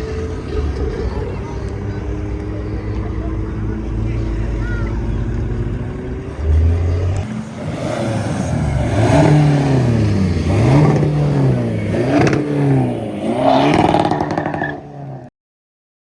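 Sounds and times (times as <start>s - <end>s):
car engine revving: 0.0s - 15.3s.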